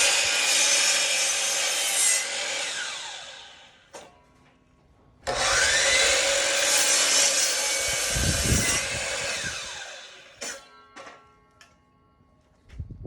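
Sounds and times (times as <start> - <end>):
miter saw whining and cutting wood: 0.0 - 4.2, 5.2 - 11.8.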